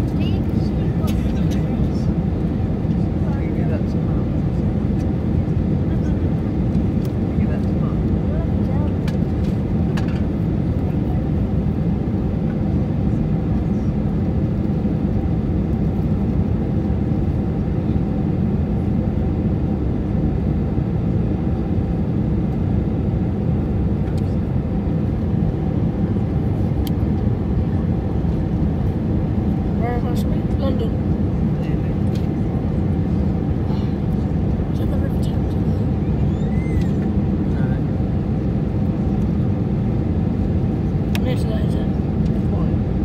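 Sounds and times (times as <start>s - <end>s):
airliner cabin engine rumble: 0.0s - 43.0s.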